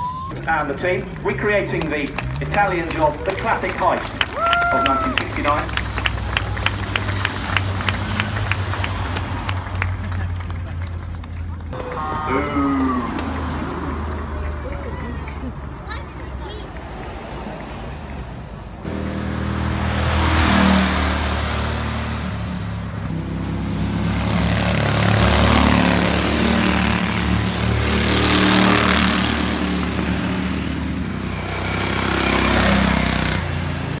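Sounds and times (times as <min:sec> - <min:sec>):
lawnmower engines passing by: 0:00.0 - 0:34.0.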